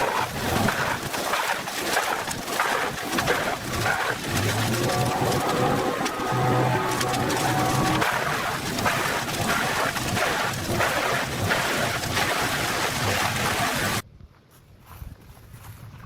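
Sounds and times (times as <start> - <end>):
wood chipper shredding wood: 0.0 - 14.0.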